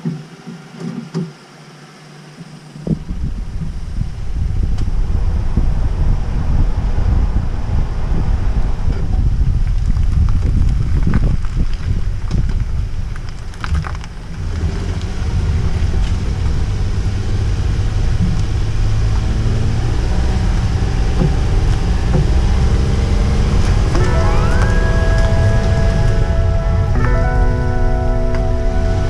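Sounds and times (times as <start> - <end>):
road and engine rumble in car: 0.0 - 29.0.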